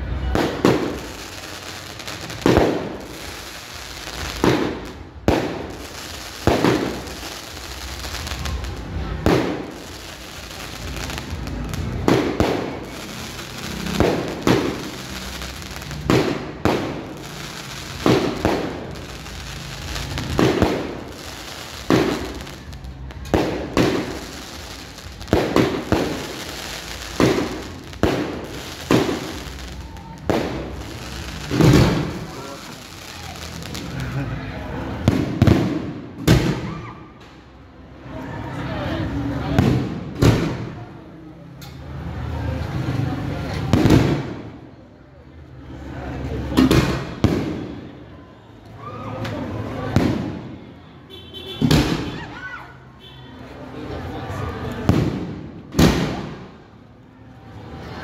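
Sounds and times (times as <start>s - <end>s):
fireworks bursting with echo: 0.0s - 37.4s, 38.6s - 41.1s, 42.3s - 44.9s, 45.5s - 50.8s, 51.4s - 52.4s, 53.5s - 56.8s.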